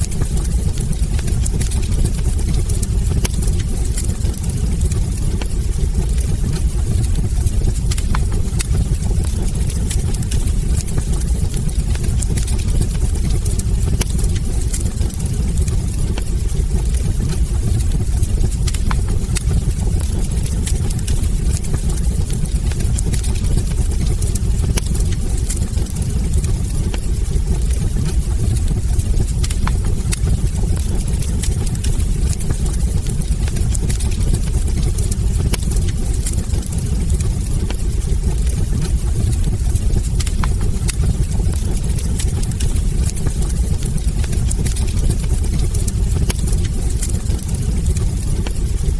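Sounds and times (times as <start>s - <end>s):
wood fire roaring and crackling: 0.0s - 48.9s.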